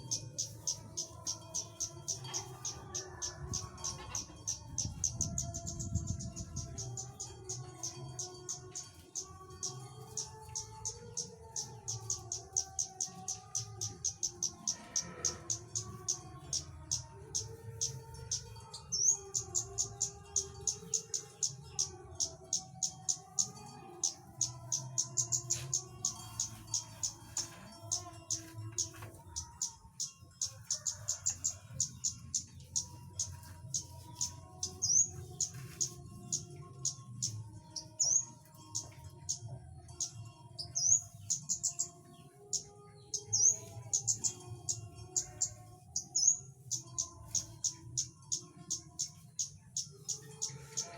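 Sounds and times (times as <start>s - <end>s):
small bird chirping: 3.4s - 39.4s, 42.5s - 50.9s.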